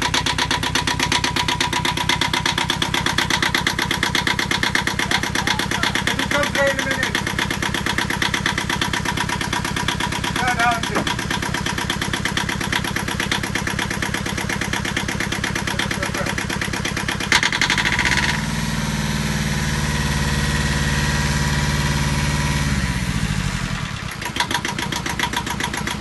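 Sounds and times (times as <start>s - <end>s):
boat engine idling and revving: 0.0s - 26.0s.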